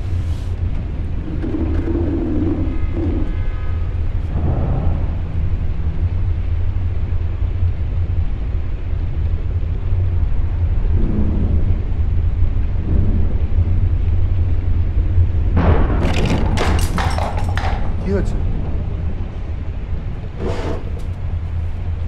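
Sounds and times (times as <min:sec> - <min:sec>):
deep low rumbling drone: 0:00.0 - 0:22.0.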